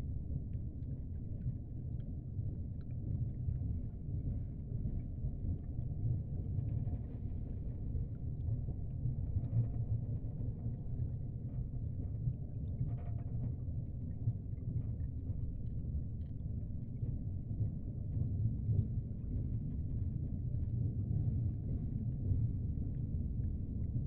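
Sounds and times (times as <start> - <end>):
aquarium water rumbling: 0.0 - 24.0.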